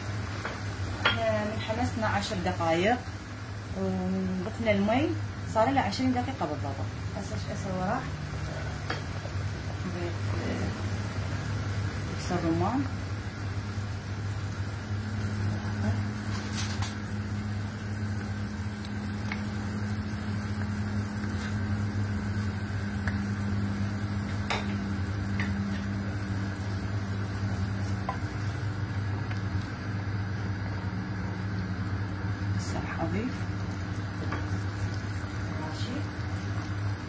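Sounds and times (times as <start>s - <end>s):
broth sizzling in a pan: 0.0s - 37.0s.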